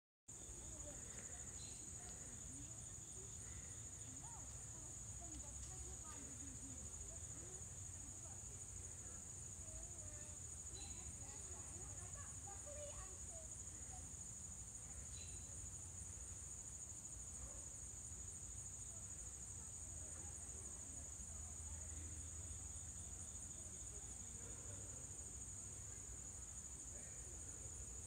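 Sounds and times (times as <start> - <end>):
insects trilling: 0.3 - 28.0.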